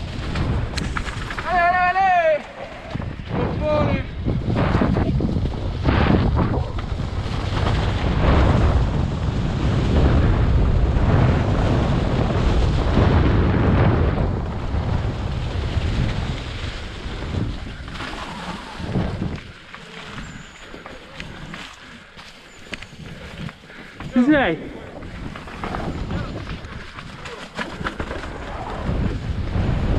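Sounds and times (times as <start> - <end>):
bike tyres rumbling on trail: 0.0 - 29.9
wind over microphone: 0.0 - 29.9.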